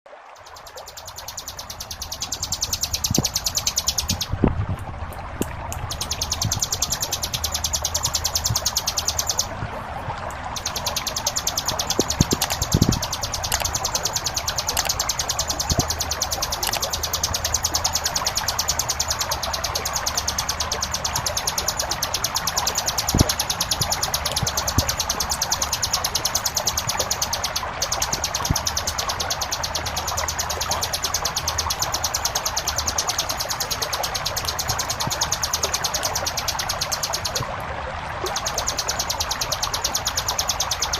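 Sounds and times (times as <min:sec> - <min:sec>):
flowing water rushing: 0:00.1 - 0:40.9
bird singing rapid trill: 0:00.4 - 0:04.3, 0:05.9 - 0:09.5, 0:10.6 - 0:37.4, 0:38.3 - 0:40.9.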